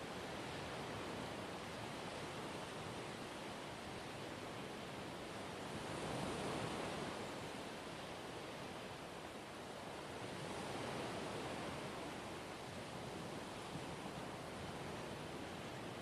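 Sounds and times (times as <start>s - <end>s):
ocean waves washing on shore: 0.0s - 16.0s.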